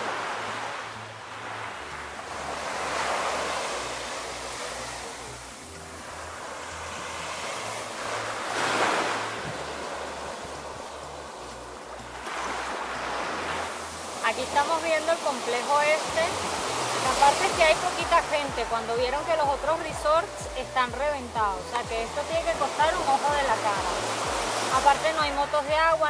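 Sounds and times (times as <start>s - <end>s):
waves washing onto sandy beach: 0.0s - 26.0s.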